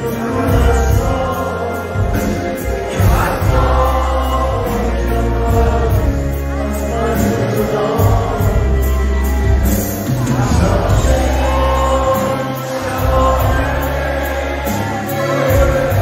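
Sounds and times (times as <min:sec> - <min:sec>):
live pop band with male singer: 0:00.0 - 0:16.0.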